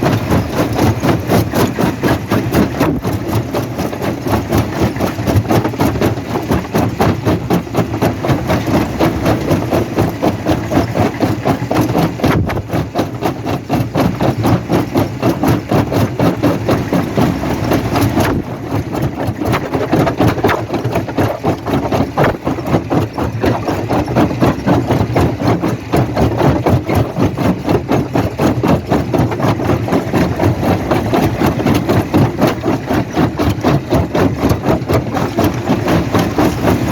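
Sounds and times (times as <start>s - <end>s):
stone crushing machinery knocking: 0.0s - 36.9s.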